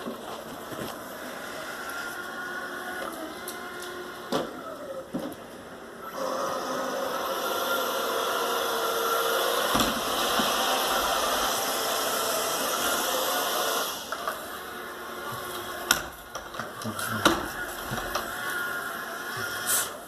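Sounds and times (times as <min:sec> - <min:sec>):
robot vacuum whirring: 0:00.6 - 0:20.0.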